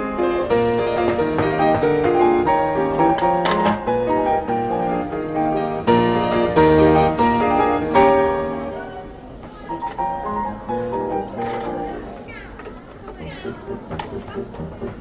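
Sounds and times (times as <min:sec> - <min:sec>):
piano music: 0:00.0 - 0:12.3, 0:13.2 - 0:15.0.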